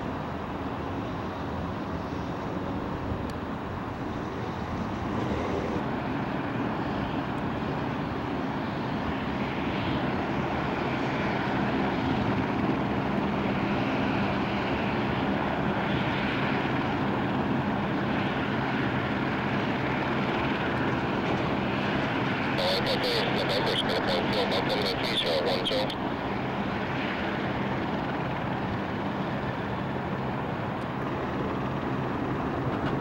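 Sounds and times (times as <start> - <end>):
aircraft engine rumble: 0.0 - 33.0.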